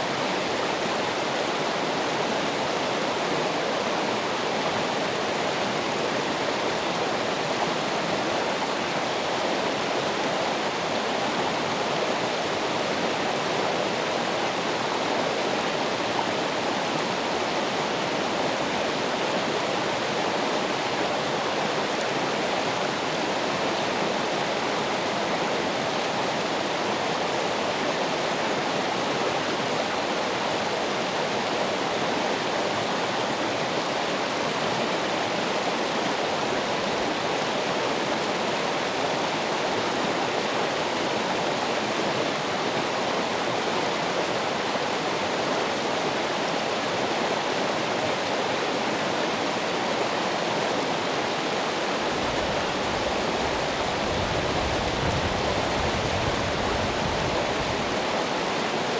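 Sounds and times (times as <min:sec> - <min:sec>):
running water rushing: 0:00.0 - 0:58.9.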